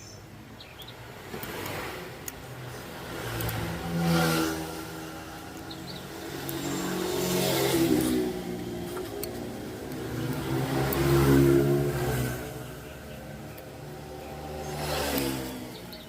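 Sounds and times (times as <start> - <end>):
small petrol engine revving: 1.2 - 16.0.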